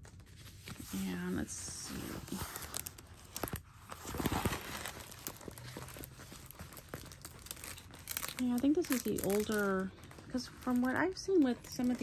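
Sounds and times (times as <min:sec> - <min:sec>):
plastic film crinkling and rustling: 0:00.0 - 0:12.0.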